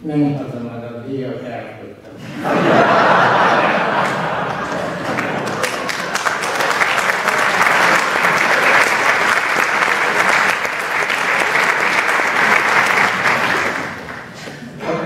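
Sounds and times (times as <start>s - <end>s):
audience applauding: 2.6s - 15.0s.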